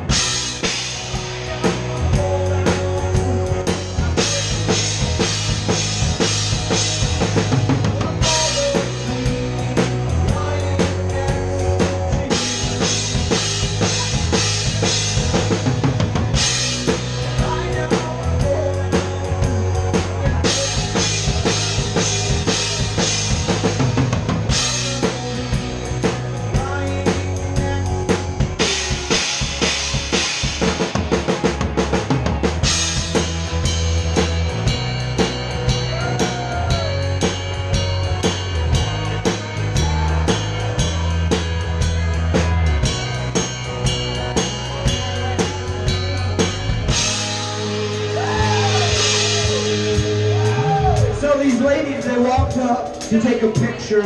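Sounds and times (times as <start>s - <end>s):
drum kit beat: 0.0s - 54.0s
live band playing: 0.0s - 54.0s
low bass notes: 0.0s - 54.0s.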